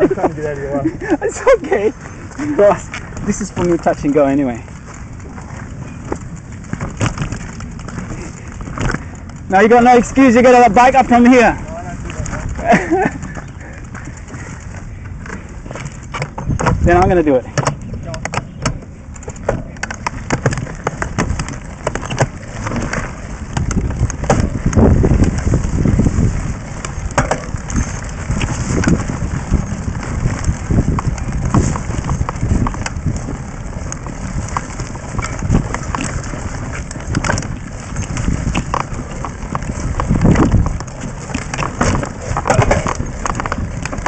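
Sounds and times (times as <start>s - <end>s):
bike rattling over bumps: 0.0s - 44.0s
wind buffeting microphone: 0.0s - 44.0s.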